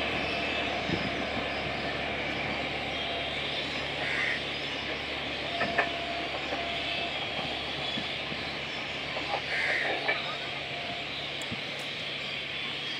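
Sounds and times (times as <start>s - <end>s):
trains humming and rumbling: 0.0s - 12.9s.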